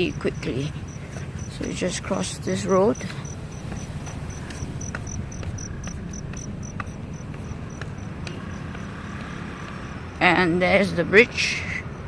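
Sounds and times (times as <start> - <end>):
steady low rumble: 0.0 - 10.6
insect chirping: 0.0 - 12.0.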